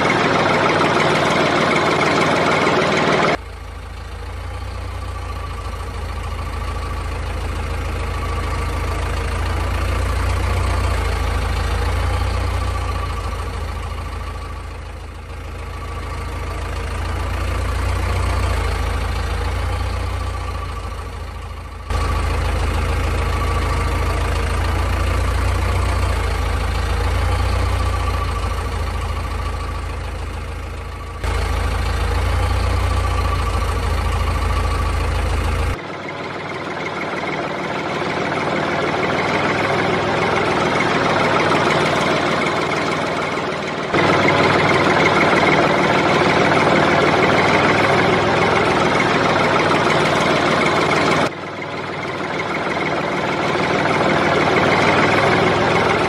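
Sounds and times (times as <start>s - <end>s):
engine-like drone: 0.0s - 56.0s.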